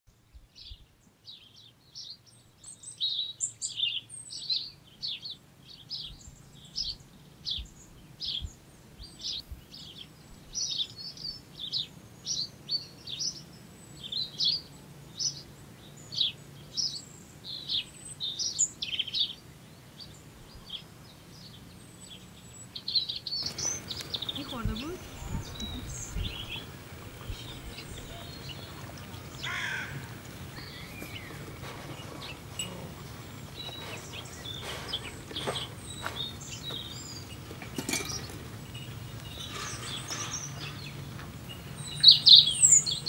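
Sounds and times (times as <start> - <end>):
small birds chirping: 0.2 - 43.0.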